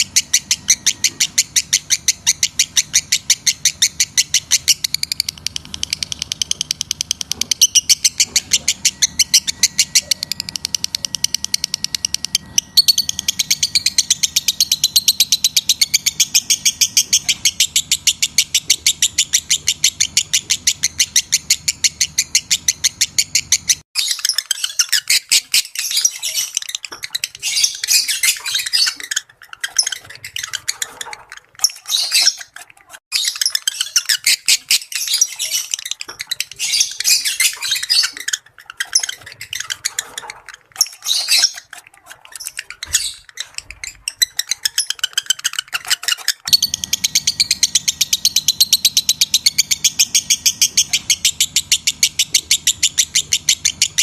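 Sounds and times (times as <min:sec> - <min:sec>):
lovebirds chattering: 0:00.0 - 0:54.0.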